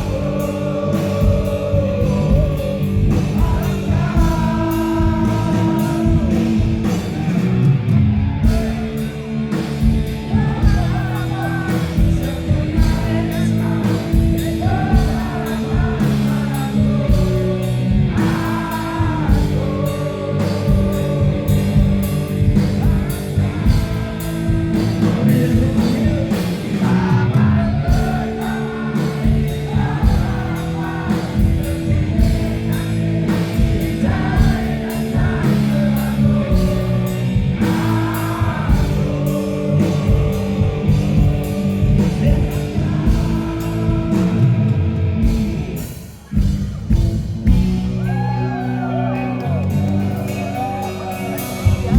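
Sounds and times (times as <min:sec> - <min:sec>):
person singing: 0:00.0 - 0:07.6, 0:10.2 - 0:44.8
rock band playing live: 0:00.0 - 0:51.9.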